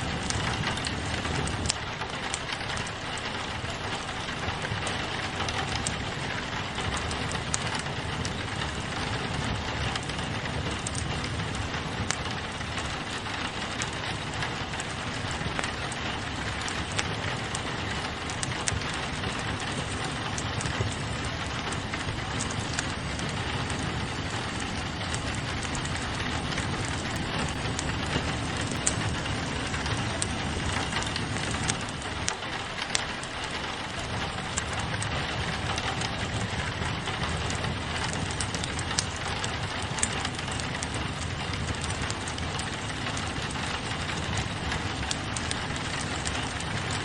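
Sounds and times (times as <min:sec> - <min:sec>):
rain pattering on a window: 0:00.0 - 0:47.0
wood fire crackling: 0:00.0 - 0:47.0.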